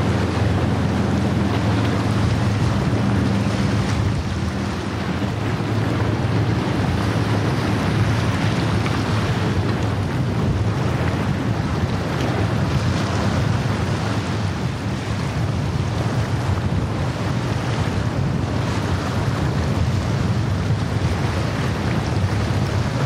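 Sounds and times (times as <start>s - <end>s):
boat engine drone: 0.0s - 23.0s
water rushing and spray: 0.0s - 23.0s
wind on microphone: 0.0s - 23.0s.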